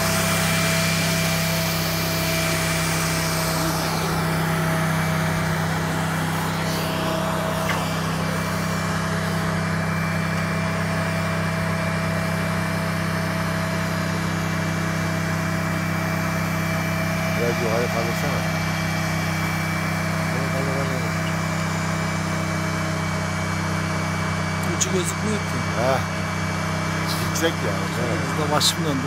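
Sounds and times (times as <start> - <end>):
engine drone: 0.0 - 29.0
thin mechanical whine: 0.0 - 29.0.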